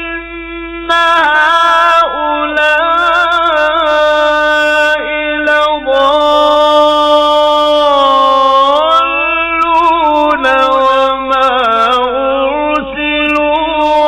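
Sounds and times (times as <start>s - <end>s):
man chanting melodic recitation: 0.0s - 14.0s.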